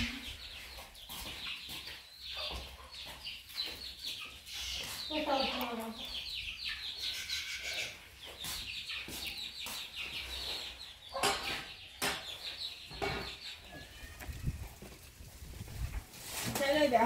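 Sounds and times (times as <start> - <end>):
chickens clucking: 0.0 - 16.4.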